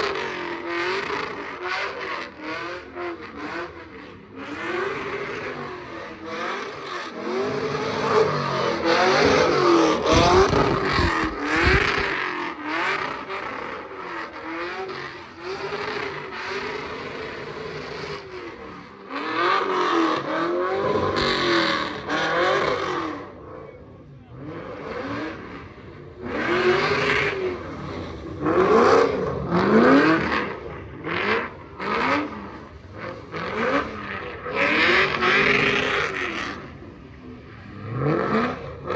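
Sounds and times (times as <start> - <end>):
car engine revving: 0.0 - 23.6, 24.3 - 38.9.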